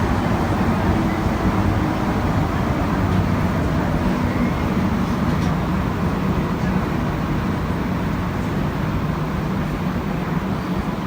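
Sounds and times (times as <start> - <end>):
metro train rumbling: 0.0 - 11.0.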